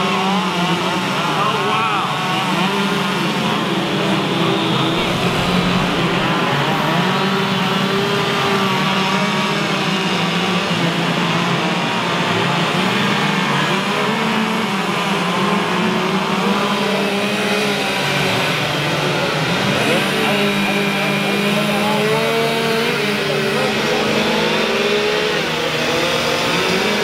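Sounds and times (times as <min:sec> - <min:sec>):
chainsaws revving: 0:00.3 - 0:10.8, 0:15.8 - 0:27.0.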